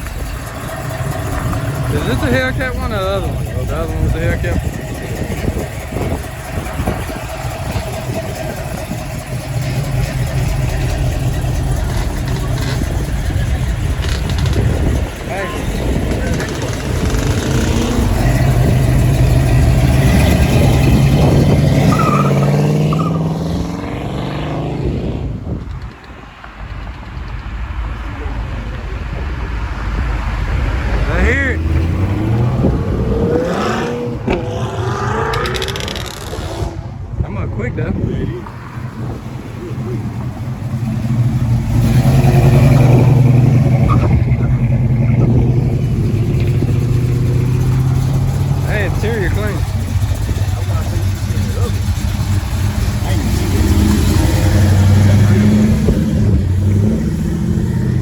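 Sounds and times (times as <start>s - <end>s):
car engine revving high: 0.0s - 25.5s, 29.8s - 37.2s, 38.6s - 58.0s.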